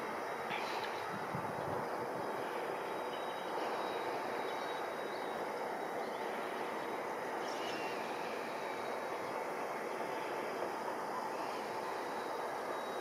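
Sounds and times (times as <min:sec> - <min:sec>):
distant jet engines rushing: 0:00.0 - 0:13.0.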